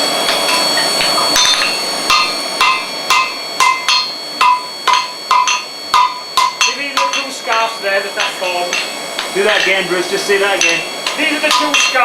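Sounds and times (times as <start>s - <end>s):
hammer striking iron on anvil: 0.3s - 9.8s, 10.6s - 12.0s.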